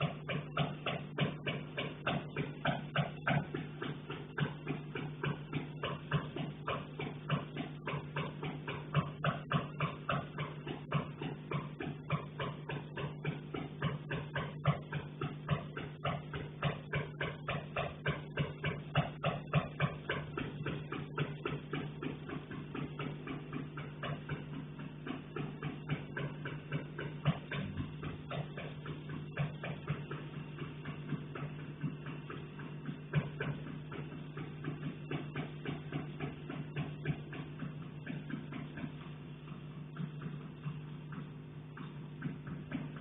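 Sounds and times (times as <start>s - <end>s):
rapid knocking from attic: 0.0s - 43.0s
steady low hum: 0.0s - 43.0s.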